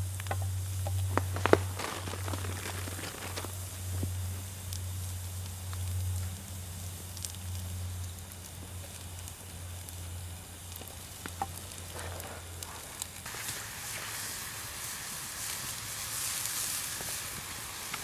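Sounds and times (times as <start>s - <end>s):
mushrooms sizzling in pan: 0.0s - 11.9s, 13.0s - 18.0s.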